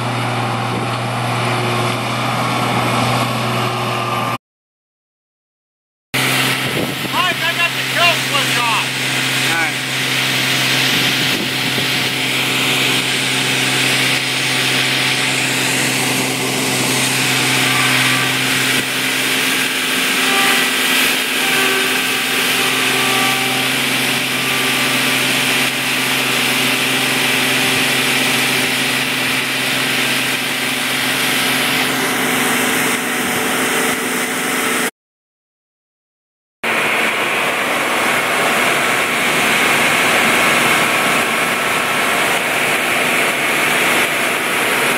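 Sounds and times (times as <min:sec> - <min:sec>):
heavy machinery engine hum: 0:00.0 - 0:04.4, 0:06.2 - 0:34.9, 0:36.7 - 0:44.9.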